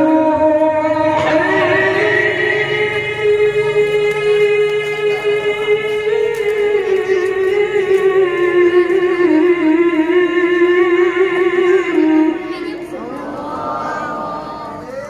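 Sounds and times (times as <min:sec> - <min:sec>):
man reciting melodically through microphone: 0:00.0 - 0:14.2.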